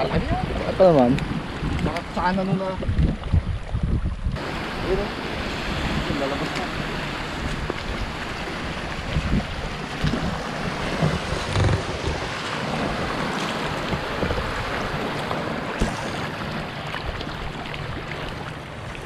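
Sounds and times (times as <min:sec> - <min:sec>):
wind buffeting microphone: 0:00.0 - 0:18.5
shallow seawater sloshing: 0:00.0 - 0:19.0.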